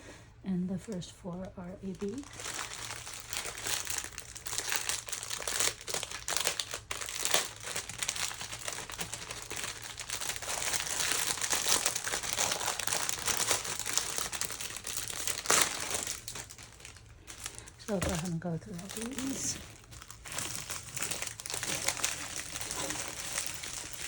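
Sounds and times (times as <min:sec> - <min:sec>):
plastic packaging crinkling: 0:00.8 - 0:24.0.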